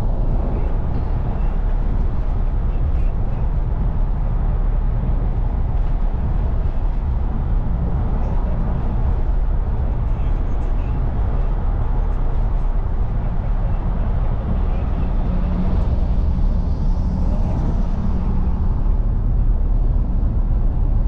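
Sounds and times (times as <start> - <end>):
road and wind noise inside car: 0.0 - 21.0.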